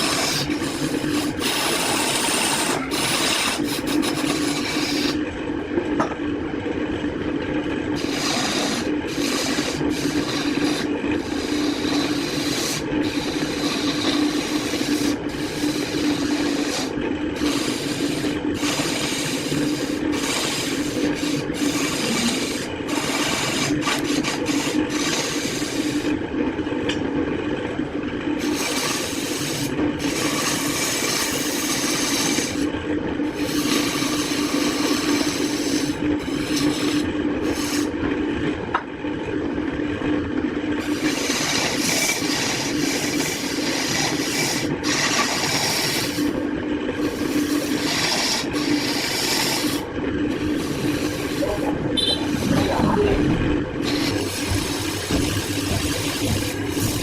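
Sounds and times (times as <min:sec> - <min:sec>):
power tool motor running: 0:00.0 - 0:05.2, 0:08.0 - 0:26.2, 0:28.4 - 0:38.0, 0:40.8 - 0:46.4, 0:47.0 - 0:57.0
tool scraping wood: 0:00.0 - 0:05.2, 0:08.0 - 0:26.1, 0:28.4 - 0:32.7, 0:33.3 - 0:37.9, 0:40.8 - 0:46.4, 0:47.0 - 0:57.0.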